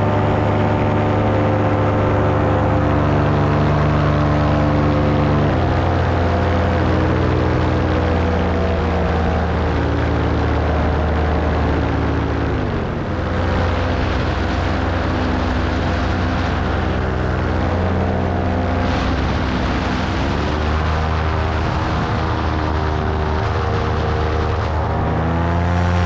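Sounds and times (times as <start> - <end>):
paramotor engine and propeller: 0.0 - 26.0.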